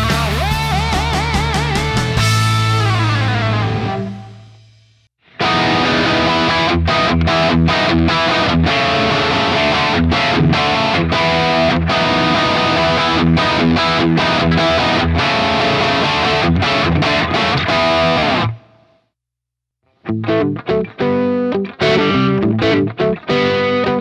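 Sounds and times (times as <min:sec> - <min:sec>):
distorted electric guitar riff: 0:00.0 - 0:19.0, 0:19.9 - 0:24.0.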